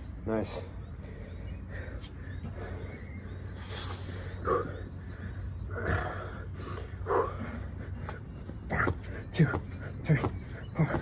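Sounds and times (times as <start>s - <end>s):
man breathing heavily: 0.6s - 11.0s.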